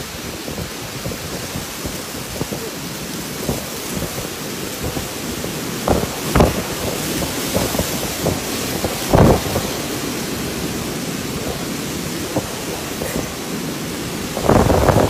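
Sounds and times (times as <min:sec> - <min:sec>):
heavy rain: 0:00.0 - 0:15.0
low thunder rumbles: 0:00.0 - 0:15.0.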